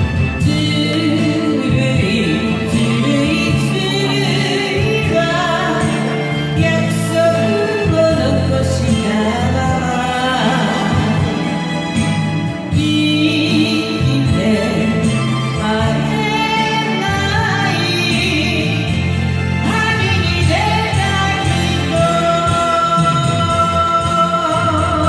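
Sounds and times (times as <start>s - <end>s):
instrumental backing music: 0.0s - 25.0s
person singing live: 0.0s - 25.0s.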